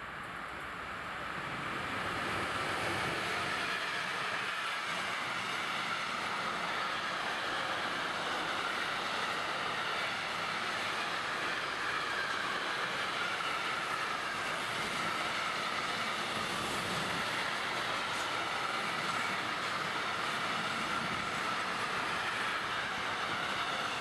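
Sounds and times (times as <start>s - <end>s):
train wheels on rail: 0.0s - 24.0s.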